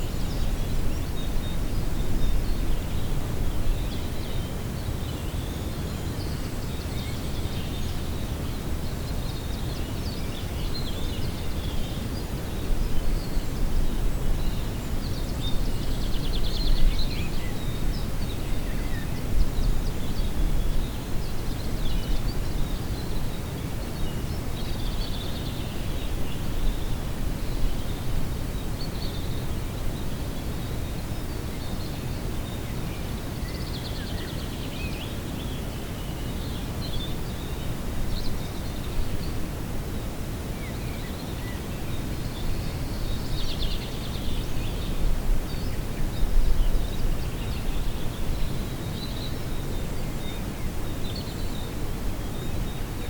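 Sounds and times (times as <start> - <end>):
low rumble of wind: 0.0 - 53.0.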